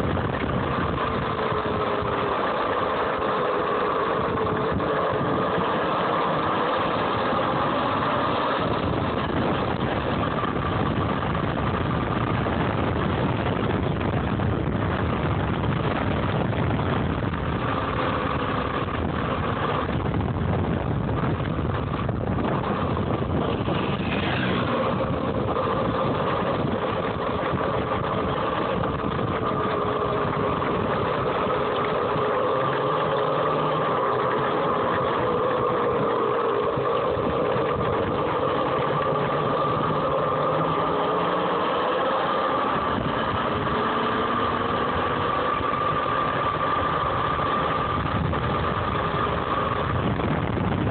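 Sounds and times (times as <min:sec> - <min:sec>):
electric motor whining: 0:00.0 - 0:50.9
low rumble: 0:00.0 - 0:50.9.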